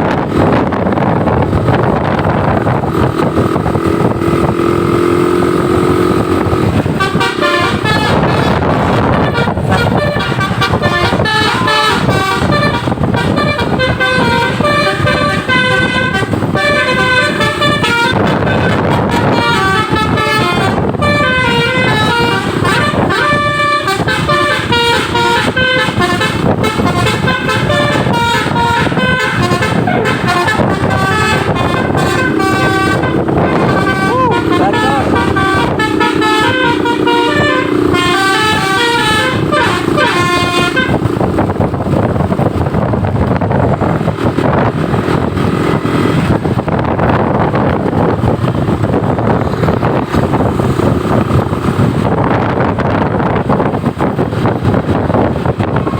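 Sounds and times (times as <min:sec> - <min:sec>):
bus horn playing a melody: 0:00.0 - 0:55.9
traffic noise: 0:00.0 - 0:55.9.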